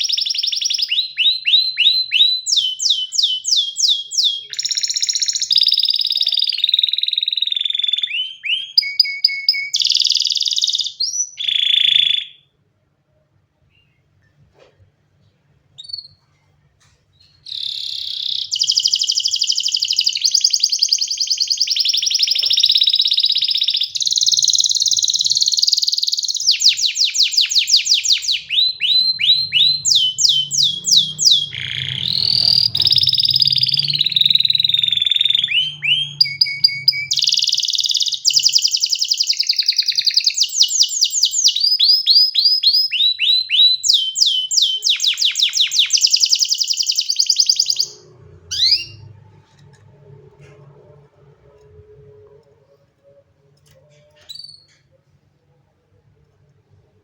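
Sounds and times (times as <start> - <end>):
canary singing: 0.0 - 12.5, 15.7 - 16.2, 17.2 - 55.0.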